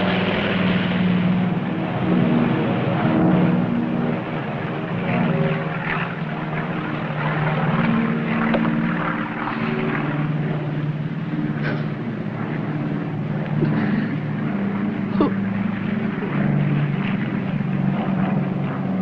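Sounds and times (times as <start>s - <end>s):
propeller engines droning: 0.0s - 19.0s.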